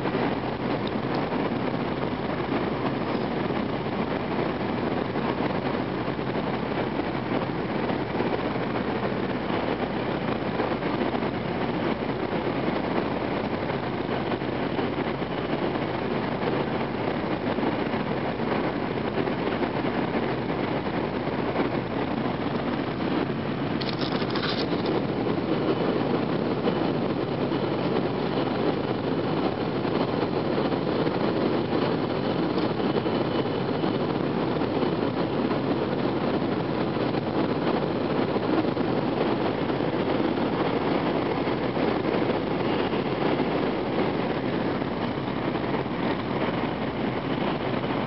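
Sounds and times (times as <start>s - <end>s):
train interior rushing rumble: 0.0s - 48.0s.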